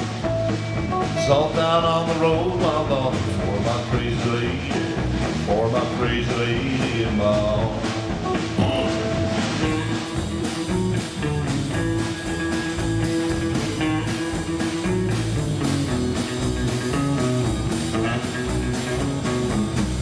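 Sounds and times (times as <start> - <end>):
electric guitar: 0.0 - 20.0
steady drum beat: 0.0 - 20.0.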